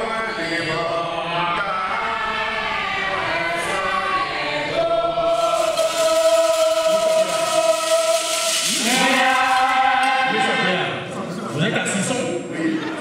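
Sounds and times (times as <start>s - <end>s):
men singing a chant: 0.0s - 10.9s.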